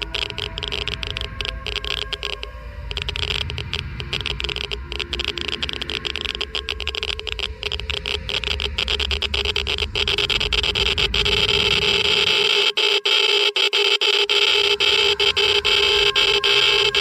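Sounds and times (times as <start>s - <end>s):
geiger counter clicking: 0.0s - 17.0s.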